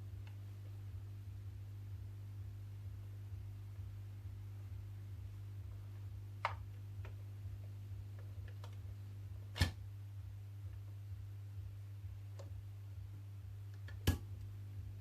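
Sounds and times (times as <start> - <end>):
turntable receiver hum: 0.0 - 15.0.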